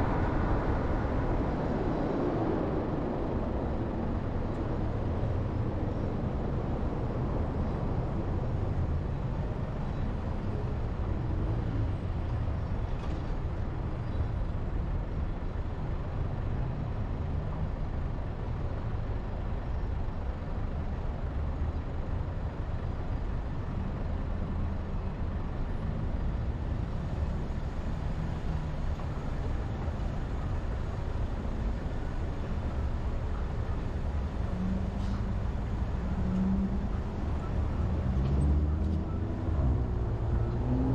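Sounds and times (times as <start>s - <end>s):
car engine and tyre noise: 0.0s - 40.9s.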